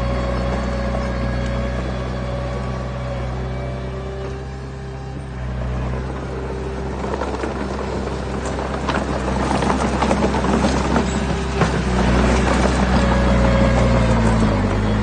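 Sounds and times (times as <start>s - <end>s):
dense engine clattering: 0.0s - 15.0s
diesel engine running: 0.0s - 15.0s.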